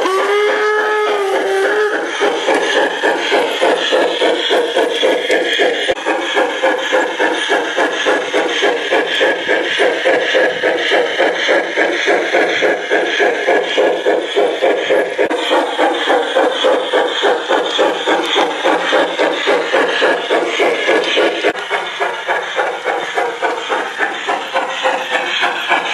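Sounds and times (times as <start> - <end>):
model steam locomotive chuffing: 0.0 - 25.9.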